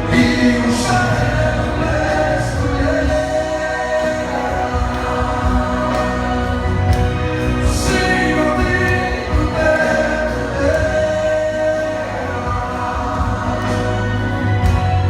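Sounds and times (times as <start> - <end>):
band with steady bass: 0.0 - 15.0
voices singing long held notes: 0.0 - 15.0.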